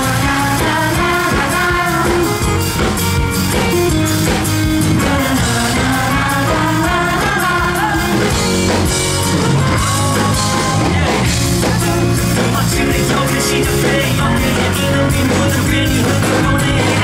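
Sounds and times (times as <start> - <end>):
drums steady beat: 0.0 - 17.0
rock band playing live: 0.0 - 17.0.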